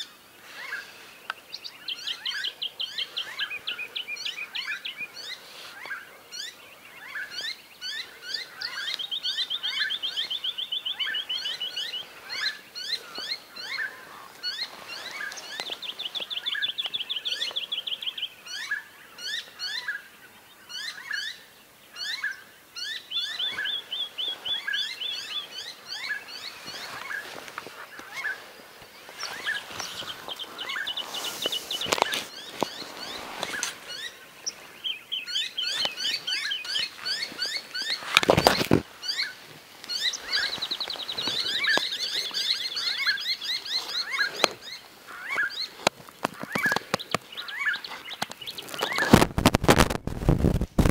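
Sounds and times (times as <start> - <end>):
bird trills: 0.0 - 20.0, 22.0 - 49.2
birds chirping and whistling: 0.0 - 49.3.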